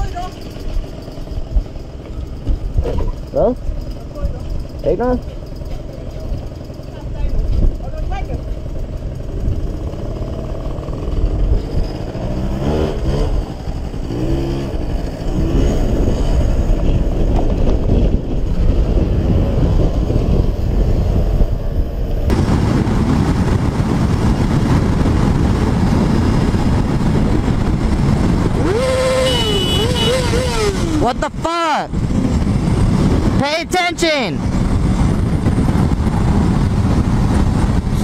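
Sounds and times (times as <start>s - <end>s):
motorbike engine revving: 0.0s - 21.7s, 22.3s - 38.0s
road traffic: 0.0s - 38.0s
wind rumble on microphone: 6.2s - 38.0s.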